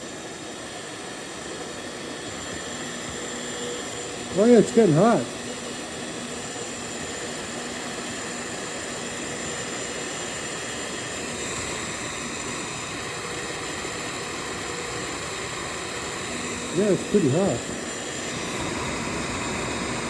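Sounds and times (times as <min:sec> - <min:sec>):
faint motor hum: 0:00.0 - 0:20.0
heat gun fan blowing air: 0:00.0 - 0:20.0.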